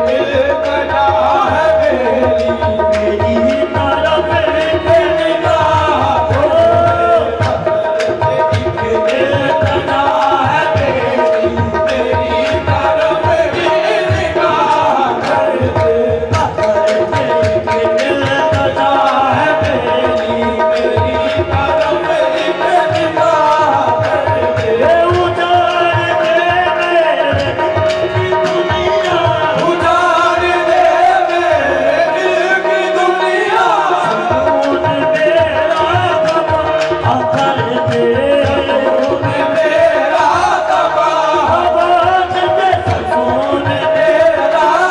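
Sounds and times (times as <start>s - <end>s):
tabla playing a steady rhythm: 0.0s - 44.9s
voices singing a gliding melody: 0.0s - 44.9s.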